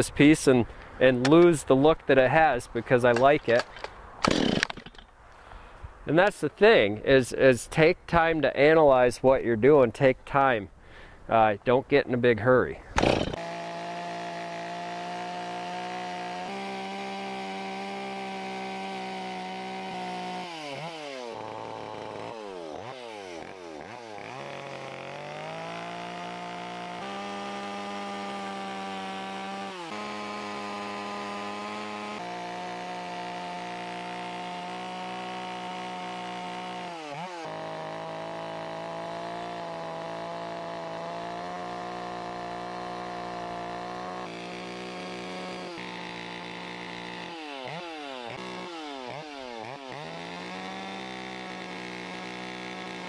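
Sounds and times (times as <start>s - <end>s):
chainsaw cutting wood: 2.8s - 5.1s, 12.8s - 53.0s.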